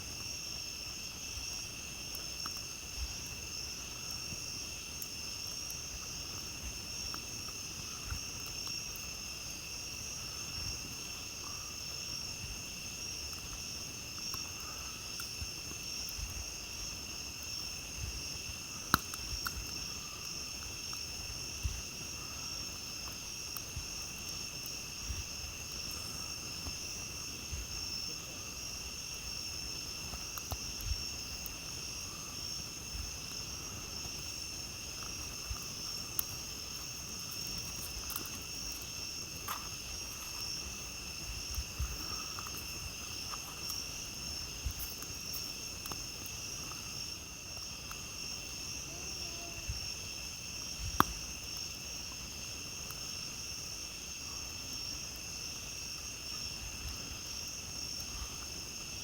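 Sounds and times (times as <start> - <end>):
campfire crackling: 0.0 - 59.0
crickets and insects trilling: 0.0 - 59.0.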